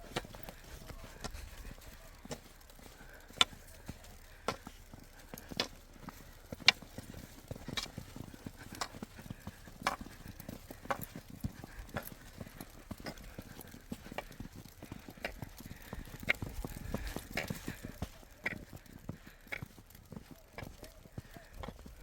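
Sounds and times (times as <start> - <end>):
footsteps crunching in snow: 0.0 - 22.0.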